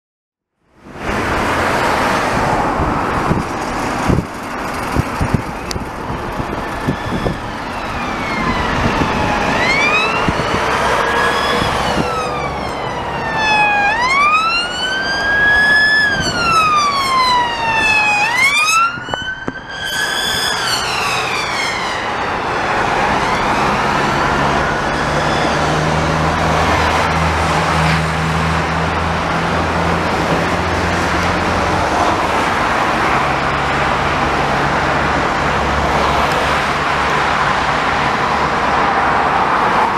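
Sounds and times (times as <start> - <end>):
road traffic noise: 0.4 - 39.9
heavy vehicle engine drone: 0.6 - 39.9
police siren wailing: 1.4 - 39.9.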